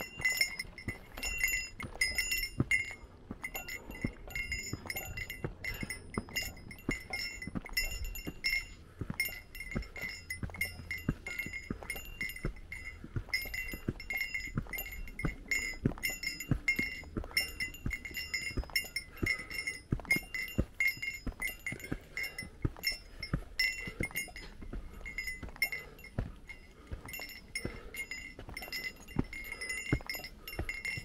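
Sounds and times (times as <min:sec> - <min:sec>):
small bell jingling: 0:00.0 - 0:31.0.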